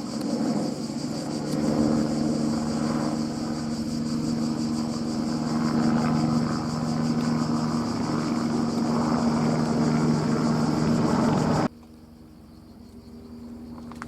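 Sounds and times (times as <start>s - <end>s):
helicopter rotor beat: 0.0s - 11.7s
helicopter engine hum and whine: 0.0s - 14.0s.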